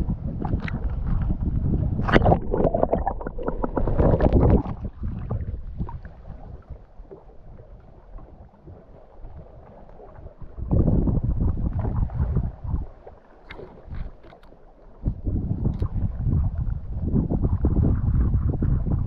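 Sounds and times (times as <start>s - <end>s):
water splashing and sloshing: 0.2s - 17.9s.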